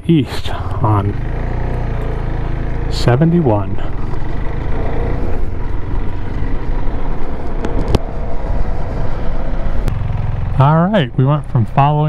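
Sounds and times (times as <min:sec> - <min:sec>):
motorcycle engine running: 0:00.4 - 0:12.0.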